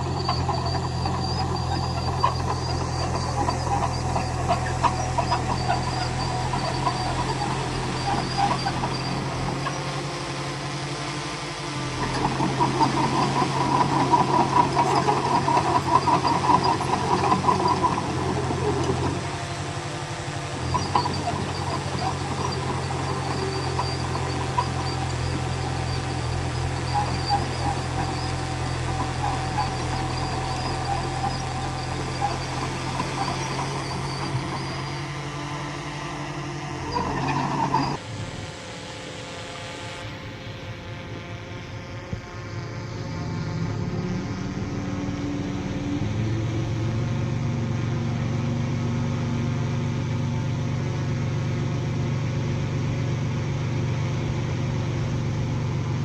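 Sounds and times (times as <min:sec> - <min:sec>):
bulldozer diesel engine running: 0:00.0 - 0:38.1, 0:42.8 - 0:56.0.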